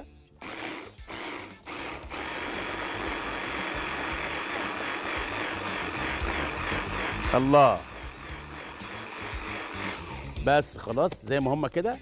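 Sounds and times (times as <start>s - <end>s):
blender running: 0.4s - 10.4s.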